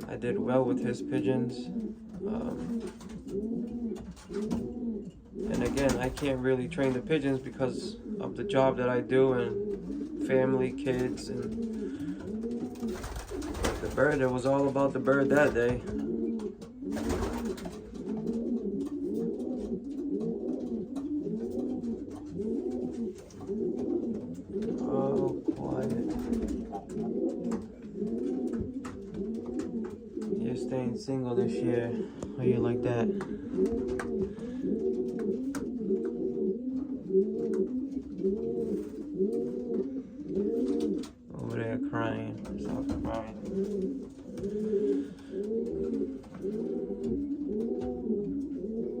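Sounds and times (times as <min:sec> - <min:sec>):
pigeons cooing: 0:00.0 - 0:49.0.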